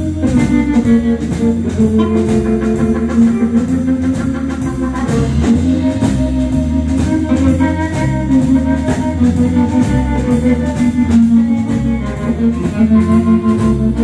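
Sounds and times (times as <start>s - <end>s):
drum kit beat: 0.0s - 14.0s
electric bass: 0.0s - 14.0s
electric guitar: 0.0s - 14.0s
harmonica: 0.0s - 14.0s.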